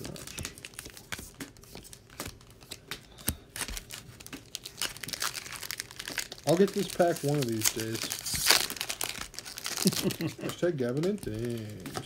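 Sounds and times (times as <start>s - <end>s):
foil wrappers crinkling and tearing: 0.0s - 12.0s
playing cards being handled: 0.0s - 12.0s.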